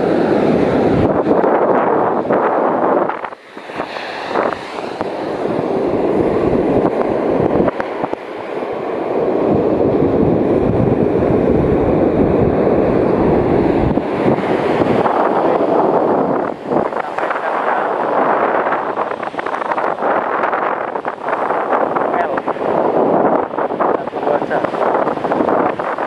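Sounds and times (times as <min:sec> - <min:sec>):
sea surf on shore: 0:00.0 - 0:26.0
wind buffeting microphone: 0:00.0 - 0:26.0.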